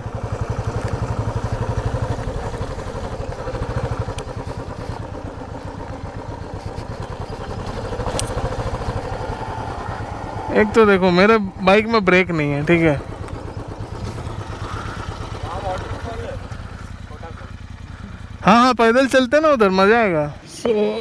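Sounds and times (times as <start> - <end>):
motorcycle rattles: 0.0 - 20.6
motorcycle engine running: 0.0 - 21.0.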